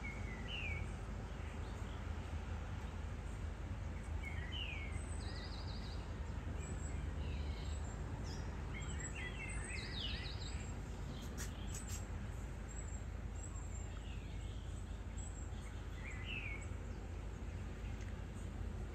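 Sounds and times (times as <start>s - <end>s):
birds chirping: 3.3s - 18.9s.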